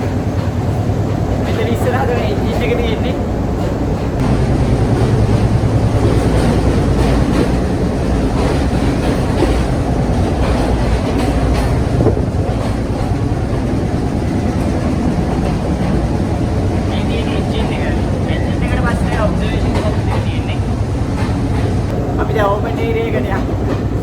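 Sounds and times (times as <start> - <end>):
train carriage rumble: 0.0 - 24.0
wheels clattering on track: 0.0 - 24.0.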